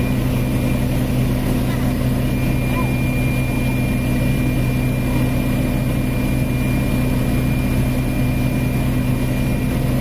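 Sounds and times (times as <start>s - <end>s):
high-pitched whine: 0.0s - 9.8s
helicopter engine and rotor drone: 0.0s - 10.0s.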